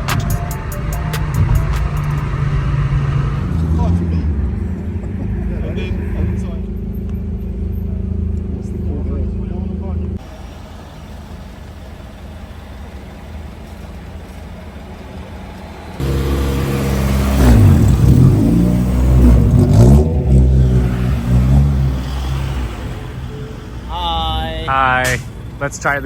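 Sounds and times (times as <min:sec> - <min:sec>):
car engine exhaust revving: 0:00.0 - 0:26.0.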